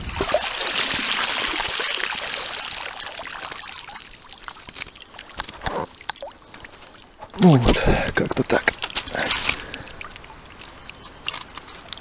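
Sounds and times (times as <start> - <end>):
water pouring and splashing: 0.0 - 12.0.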